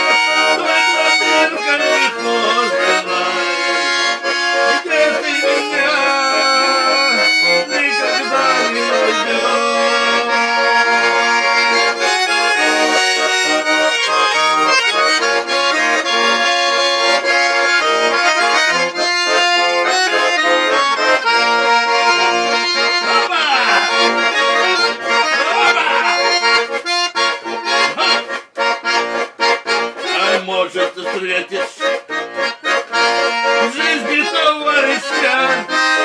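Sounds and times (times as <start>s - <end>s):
accordion playing: 0.0s - 36.0s.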